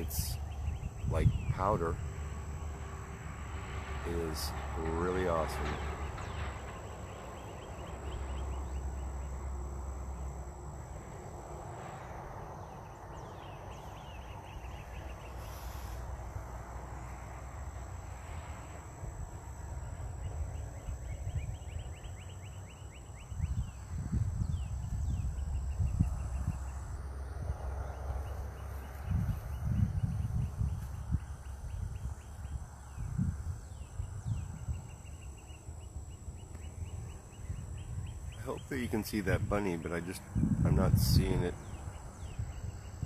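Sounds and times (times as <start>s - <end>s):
wind rumble on microphone: 0.0s - 43.0s.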